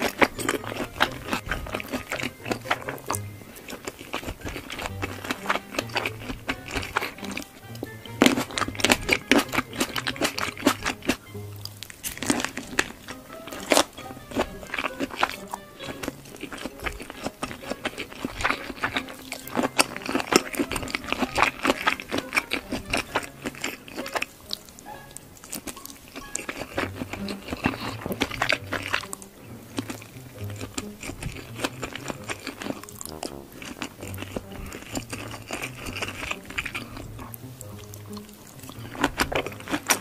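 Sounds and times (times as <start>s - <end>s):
crunching and chewing food: 0.0s - 40.0s.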